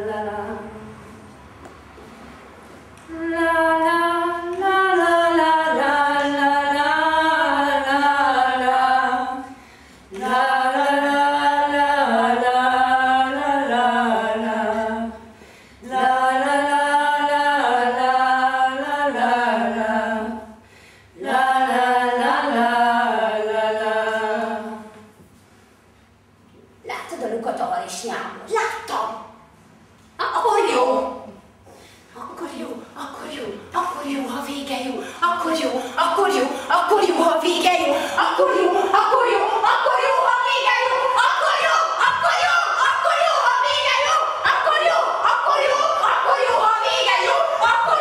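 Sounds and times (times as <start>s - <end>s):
women singing unaccompanied: 0.0s - 1.1s, 3.1s - 20.6s, 21.2s - 25.1s, 32.2s - 48.0s.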